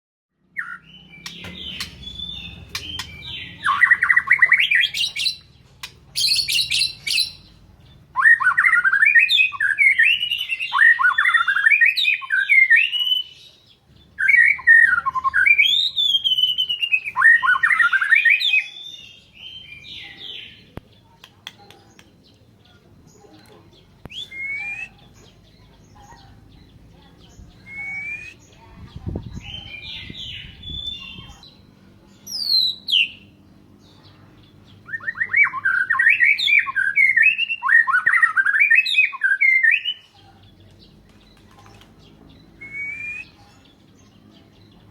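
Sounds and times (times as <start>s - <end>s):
songbird whistling song: 0.4s - 7.5s, 8.1s - 22.4s, 23.4s - 31.6s, 32.2s - 33.4s, 34.4s - 40.2s, 41.2s - 44.9s.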